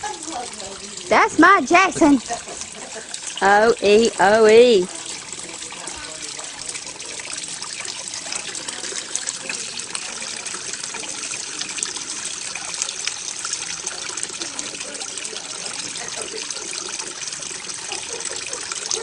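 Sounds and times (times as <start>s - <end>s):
water fountain splashing: 0.0s - 19.0s.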